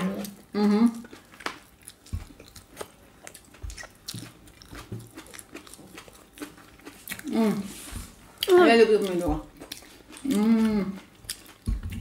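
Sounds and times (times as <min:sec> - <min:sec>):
people biting and chewing food: 0:00.0 - 0:12.0.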